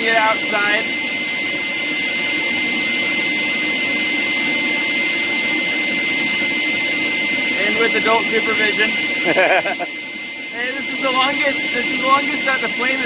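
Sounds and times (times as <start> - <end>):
forge burner rushing: 0.0 - 13.0
high whine: 0.0 - 13.0.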